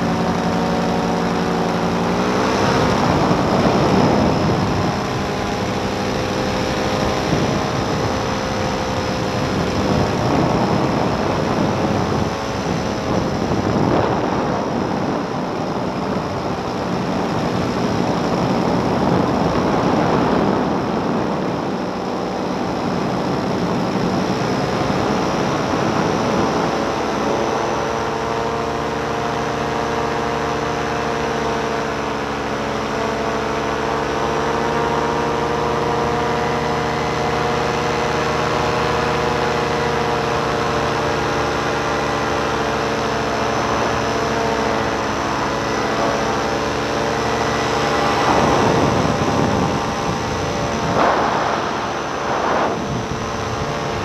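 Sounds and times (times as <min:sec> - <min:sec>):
paramotor engine droning: 0:00.0 - 0:54.0
wind rushing over microphone: 0:00.0 - 0:54.0.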